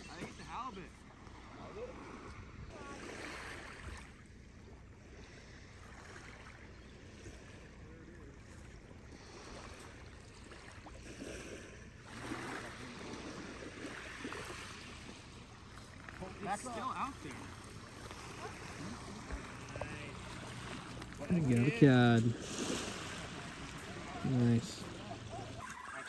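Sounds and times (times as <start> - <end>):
gentle lapping water: 0.0 - 26.0.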